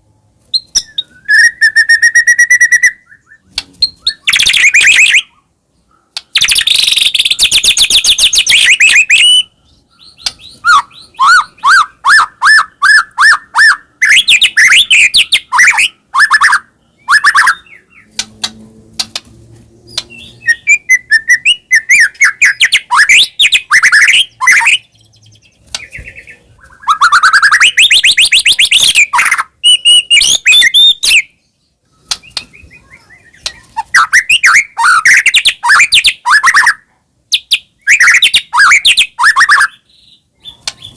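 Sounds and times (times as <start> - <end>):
songbird singing trills: 0.5 - 18.3, 19.8 - 40.9.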